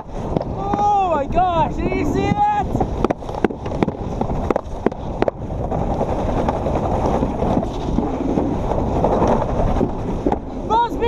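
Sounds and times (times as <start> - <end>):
sled wheels rumbling on track: 0.0 - 11.0
wind buffeting microphone: 0.0 - 11.0.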